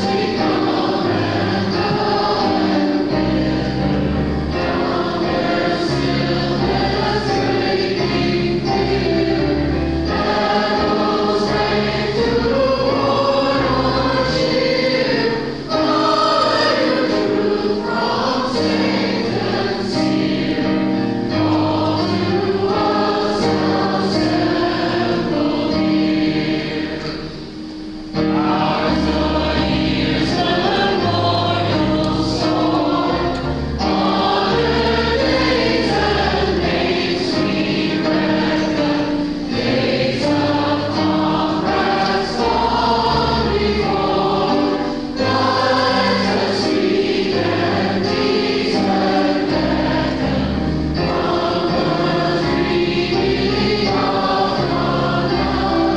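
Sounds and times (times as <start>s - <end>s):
congregation singing a hymn: 0.0s - 55.9s.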